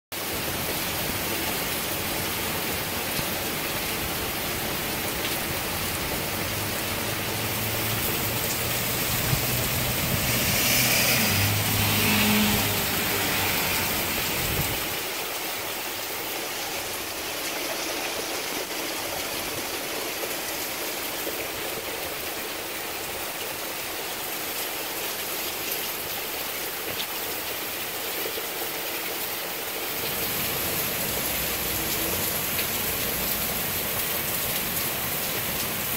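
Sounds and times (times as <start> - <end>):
heavy rain on pavement: 0.1 - 35.9.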